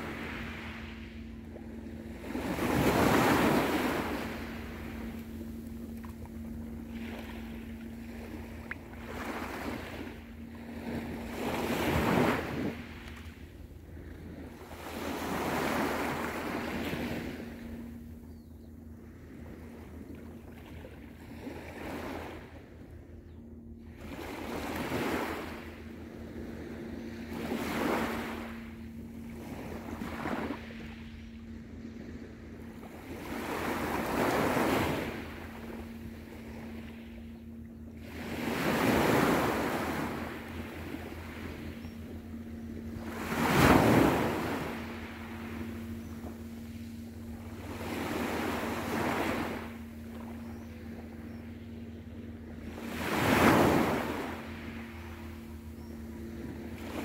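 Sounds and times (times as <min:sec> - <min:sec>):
small waves breaking on shore: 0:00.0 - 0:57.0
steady low hum: 0:00.0 - 0:57.0.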